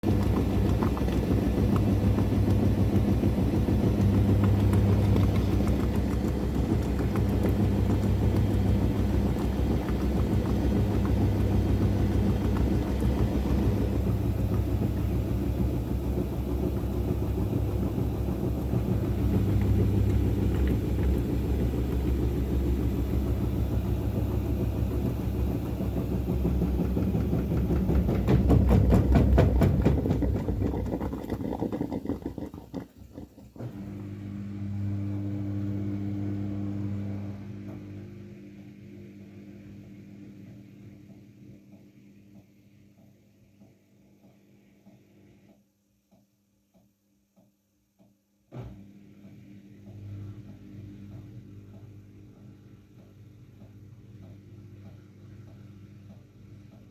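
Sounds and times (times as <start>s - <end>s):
washing machine spinning and rattling: 0.0s - 45.6s, 48.6s - 56.9s.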